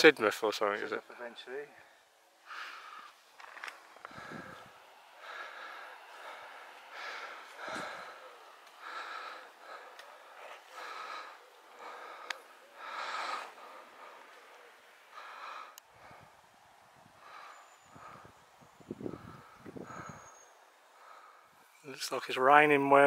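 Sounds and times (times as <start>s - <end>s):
heavy laboured breathing: 1.7s - 21.8s.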